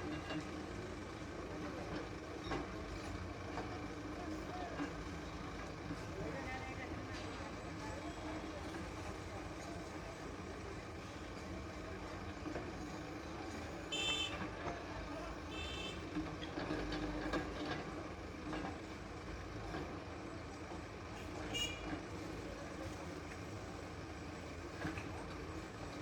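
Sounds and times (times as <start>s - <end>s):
backhoe engine running: 0.0s - 26.0s.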